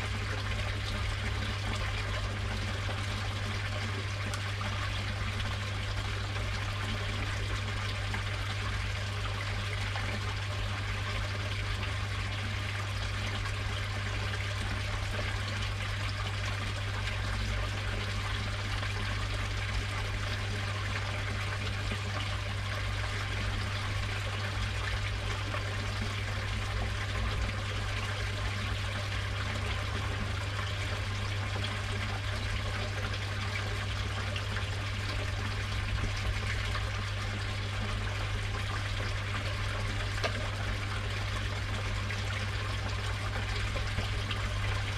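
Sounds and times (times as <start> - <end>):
water pouring into pond: 0.0 - 44.9.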